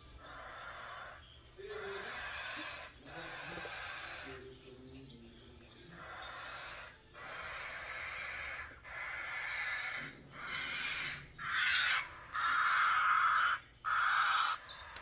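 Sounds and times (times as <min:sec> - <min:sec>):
chicks begging calls: 0:00.0 - 0:04.5, 0:06.0 - 0:15.0.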